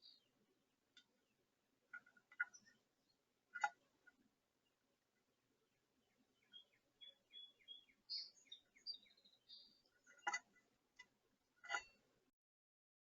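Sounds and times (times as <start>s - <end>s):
songbird singing: 0.0s - 12.1s.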